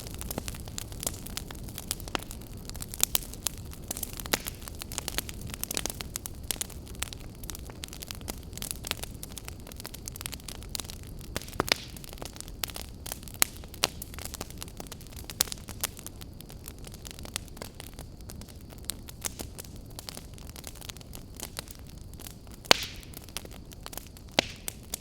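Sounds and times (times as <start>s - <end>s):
low rumble of flames: 0.0s - 25.0s
wood crackling and popping: 0.0s - 25.0s.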